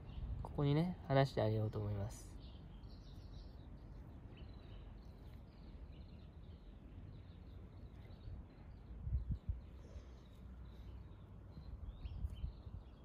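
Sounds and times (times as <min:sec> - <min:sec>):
distant sparrows chirping: 0:00.0 - 0:13.0.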